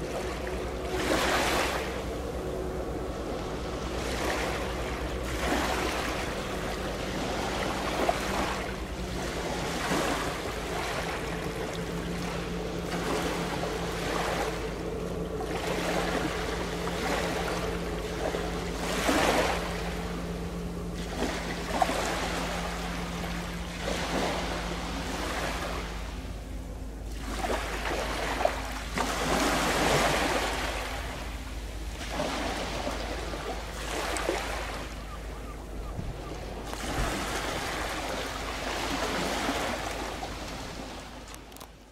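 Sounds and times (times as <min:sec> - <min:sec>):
ship engine drone: 0:00.0 - 0:41.9.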